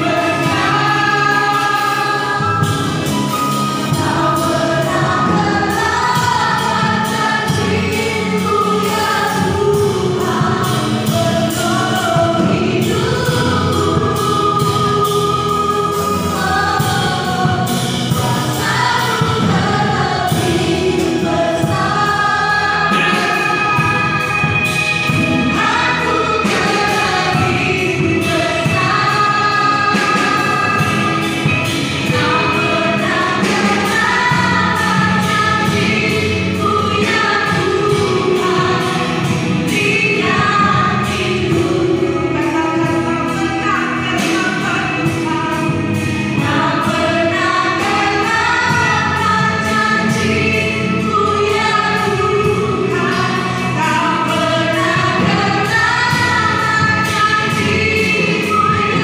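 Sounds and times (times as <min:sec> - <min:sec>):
women's choir singing: 0:00.0 - 0:59.0.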